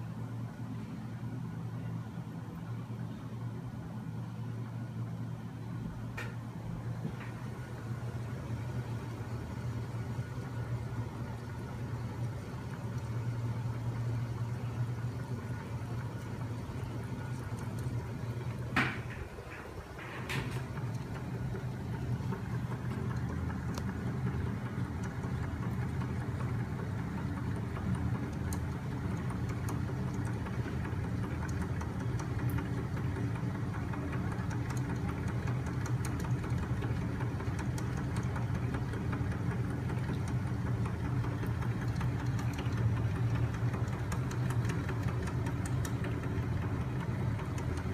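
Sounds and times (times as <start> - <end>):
machine running with low hum: 0.0 - 47.9.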